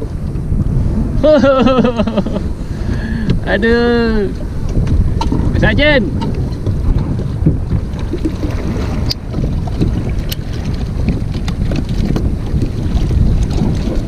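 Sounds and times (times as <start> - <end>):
choppy sea: 0.0 - 14.0
wind buffeting microphone: 0.0 - 14.0.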